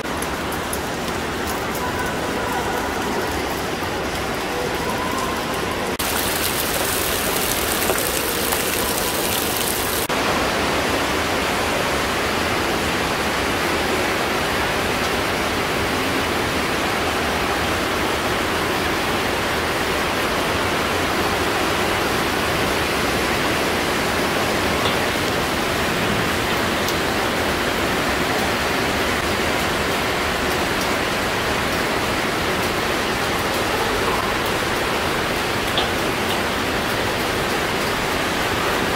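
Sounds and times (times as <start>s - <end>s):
rushing water in a cave: 0.0s - 38.9s.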